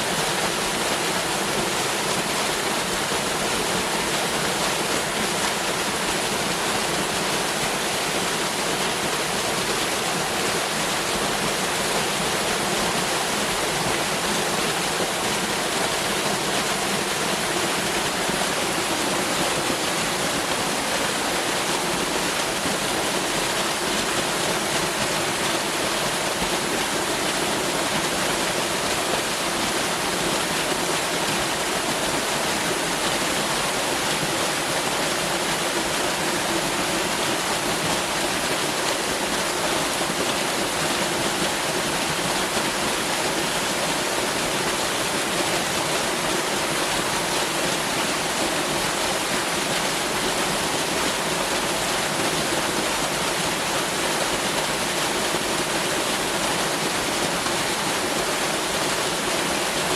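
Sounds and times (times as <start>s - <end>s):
waterfall splashing: 0.0s - 59.9s.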